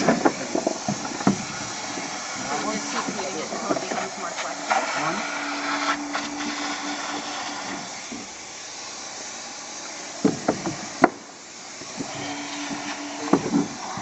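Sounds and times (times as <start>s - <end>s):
heat gun blowing hot air: 0.0s - 14.0s.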